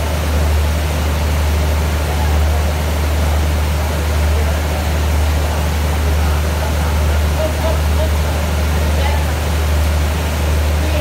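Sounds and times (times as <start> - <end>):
diesel train idling: 0.0 - 11.0.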